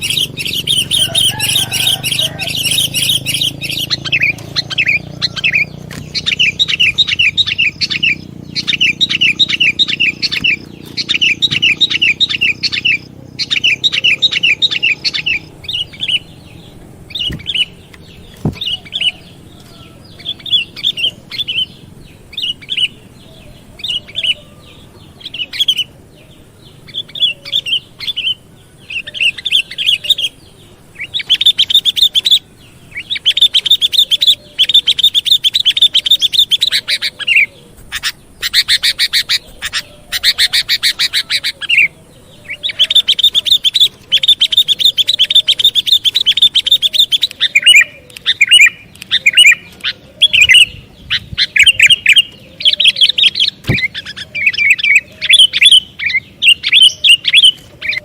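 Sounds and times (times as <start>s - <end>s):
bulbul chattering calls: 0.0s - 58.0s.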